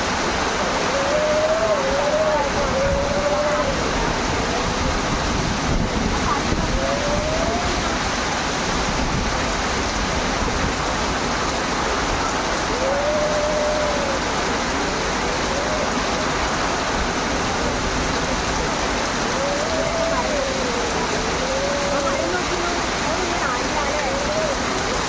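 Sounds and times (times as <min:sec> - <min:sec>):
faint wind whistling: 0:00.0 - 0:25.0
strong wind rushing: 0:00.0 - 0:25.0.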